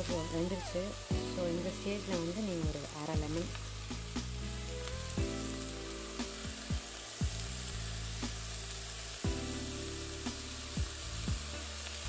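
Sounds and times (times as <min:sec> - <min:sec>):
background music with a beat: 0:00.0 - 0:12.0
rice sizzling in a pan: 0:00.0 - 0:12.0.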